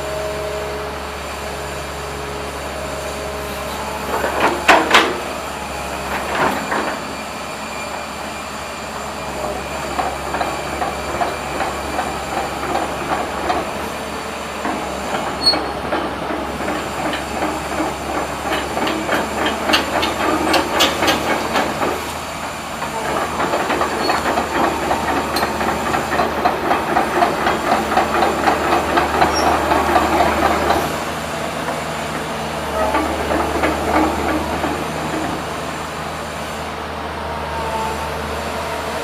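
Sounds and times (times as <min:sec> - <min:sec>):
excavator diesel engine droning: 0:00.0 - 0:39.0.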